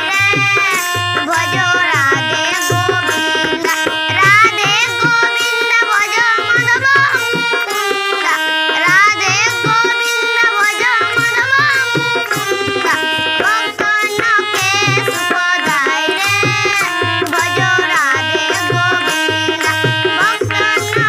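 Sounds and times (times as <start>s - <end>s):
barrel drum rhythm: 0.0s - 21.0s
girl singing devotional song: 0.0s - 21.0s
harmonium chords: 0.0s - 21.0s.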